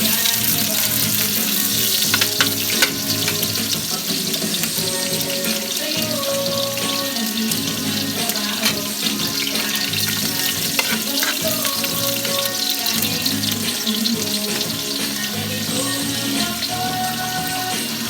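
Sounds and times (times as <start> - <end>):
background music with held notes: 0.0 - 18.0
watery hiss with crackles: 0.0 - 18.0.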